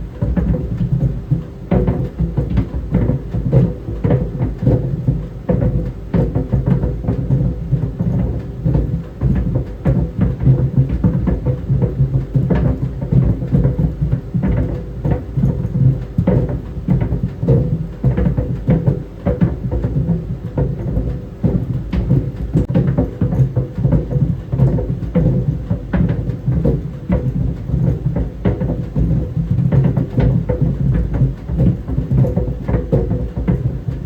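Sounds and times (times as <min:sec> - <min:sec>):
balls thudding in dryer drum: 0:00.0 - 0:34.0
dryer hum and rumble: 0:00.0 - 0:34.0.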